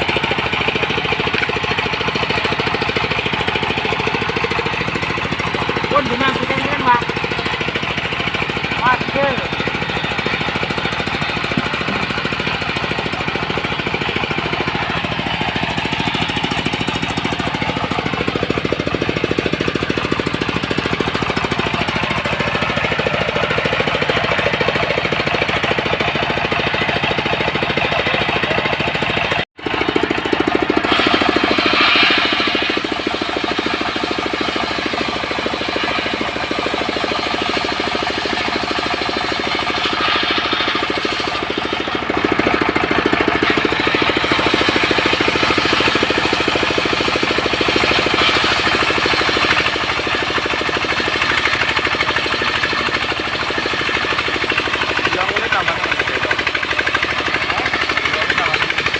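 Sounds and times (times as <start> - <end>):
sawmill engine running: 0.0 - 58.9.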